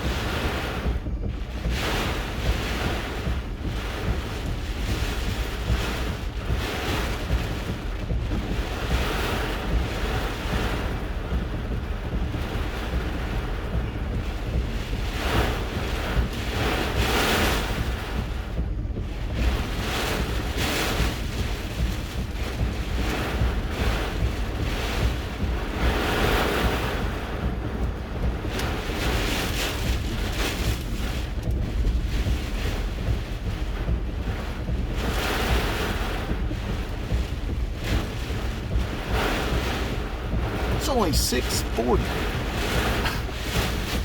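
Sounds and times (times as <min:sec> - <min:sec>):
wind buffeting a vehicle: 0:00.0 - 0:40.8, 0:42.0 - 0:44.0
steady low rumble: 0:00.0 - 0:44.0.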